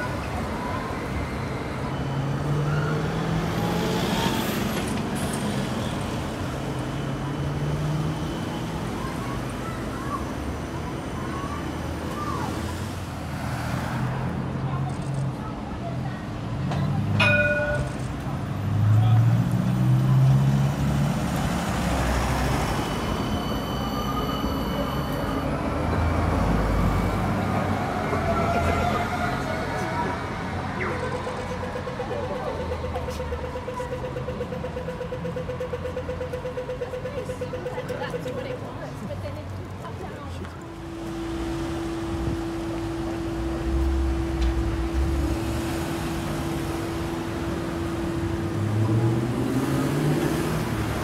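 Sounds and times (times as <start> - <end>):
street noise: 0.0 - 51.0
vehicles passing: 0.0 - 51.0.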